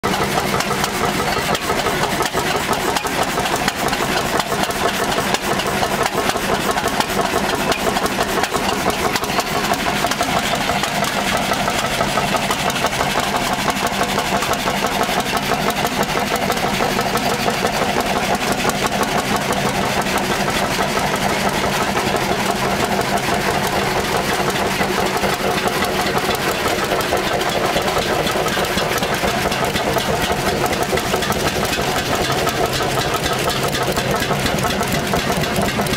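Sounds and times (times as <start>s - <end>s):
engines knocking steadily: 0.0s - 35.9s.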